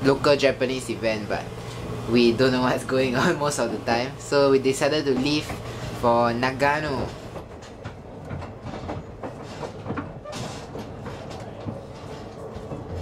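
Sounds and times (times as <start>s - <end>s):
train rumbling: 0.0s - 13.0s
wheels clicking on rail joints: 0.0s - 13.0s.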